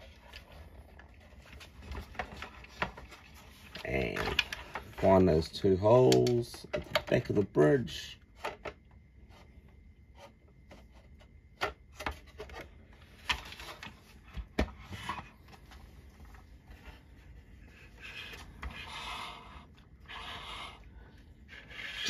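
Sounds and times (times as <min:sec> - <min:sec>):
plastic rubbing and scraping: 0:00.0 - 0:05.4, 0:06.1 - 0:07.4, 0:08.2 - 0:22.0.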